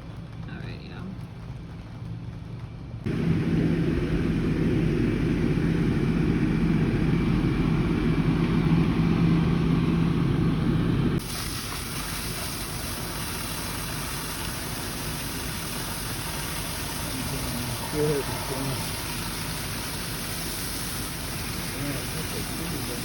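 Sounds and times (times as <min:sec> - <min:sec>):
diesel engine idling: 0:03.1 - 0:23.0.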